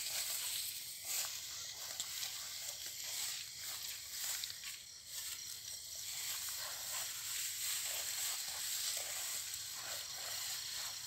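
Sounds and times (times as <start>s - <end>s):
dry grass rustling underfoot: 0.0s - 11.0s
steady high hiss: 0.0s - 11.0s.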